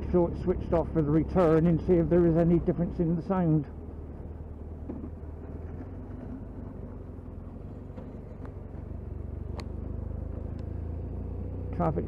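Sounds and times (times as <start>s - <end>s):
motorcycle engine running: 0.0s - 12.0s
wind and tyre noise: 0.0s - 12.0s.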